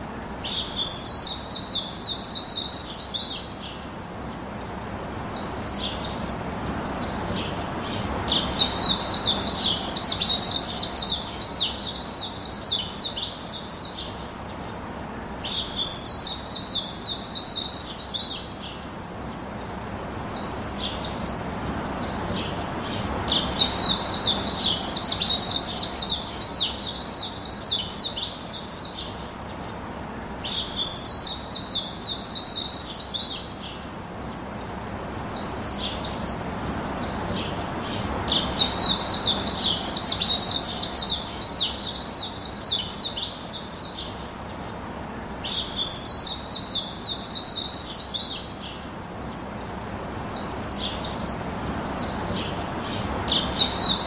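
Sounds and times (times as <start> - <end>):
songbirds chirping: 0.0 - 54.0
steady background noise: 0.0 - 54.0.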